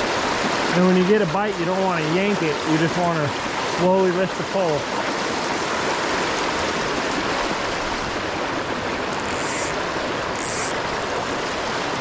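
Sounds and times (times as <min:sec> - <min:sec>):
river rushing over rapids: 0:00.0 - 0:12.0.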